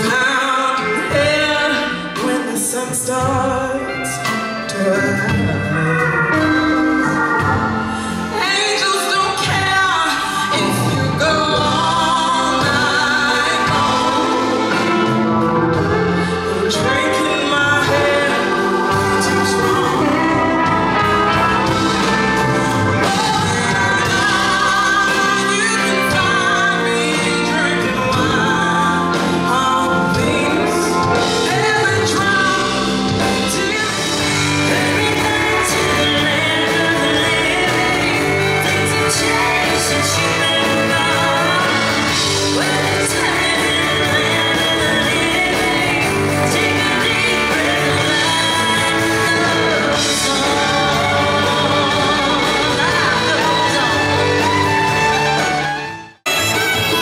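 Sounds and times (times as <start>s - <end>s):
woman singing: 0.0s - 55.6s
live band playing: 0.0s - 57.0s.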